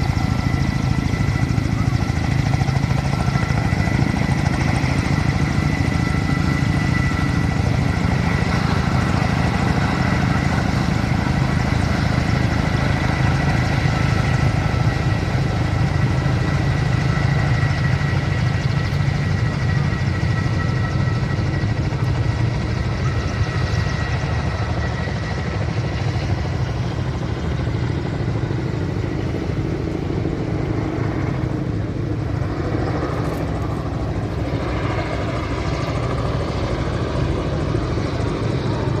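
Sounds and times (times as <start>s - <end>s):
helicopter rotor beat: 0.0s - 39.0s.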